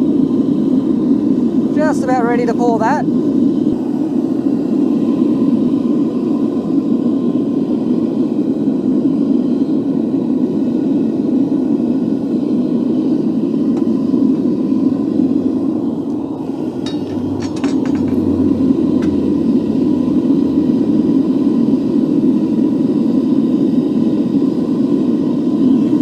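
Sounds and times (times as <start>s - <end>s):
gas burner rushing: 0.0s - 26.0s.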